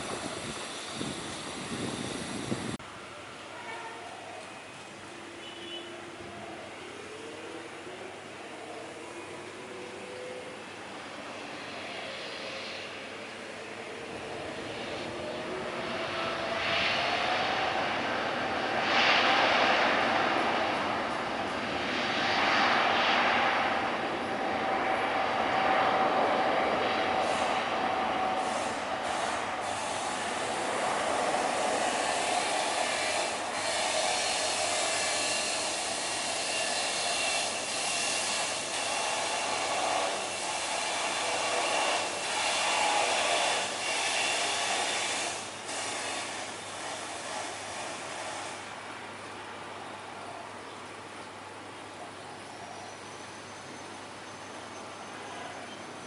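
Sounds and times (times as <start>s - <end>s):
jet engines running loud: 0.0s - 2.8s, 6.6s - 49.7s
steady engine whine: 0.0s - 3.5s, 4.2s - 56.0s.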